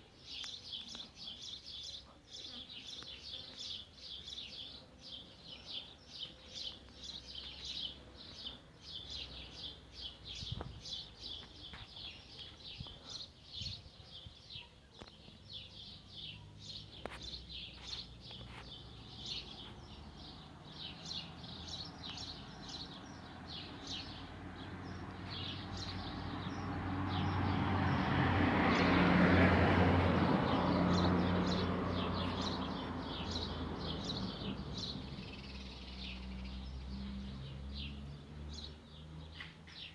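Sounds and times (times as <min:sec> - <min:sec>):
small birds chirping: 0:00.0 - 0:29.4, 0:30.0 - 0:39.9.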